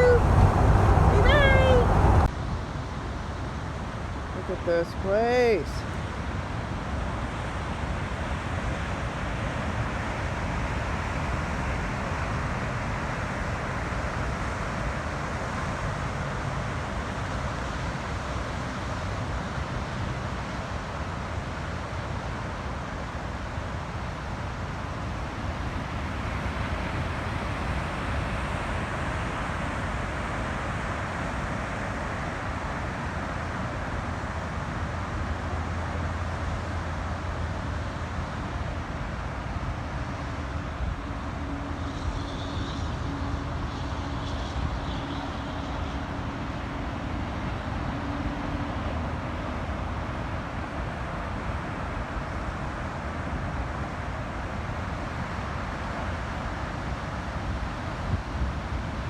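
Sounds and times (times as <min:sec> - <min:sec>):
vehicle road and engine noise: 0:00.0 - 0:59.0.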